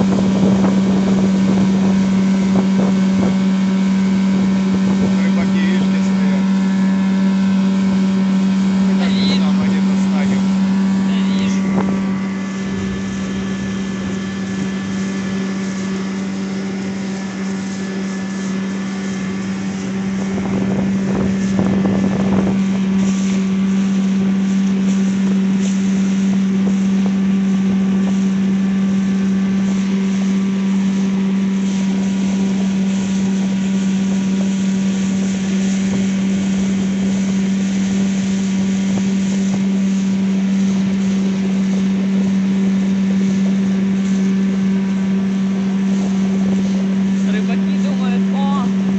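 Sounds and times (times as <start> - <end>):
wind noise on microphone: 0.0 - 5.5, 9.5 - 47.2
outboard motor running: 0.0 - 48.9.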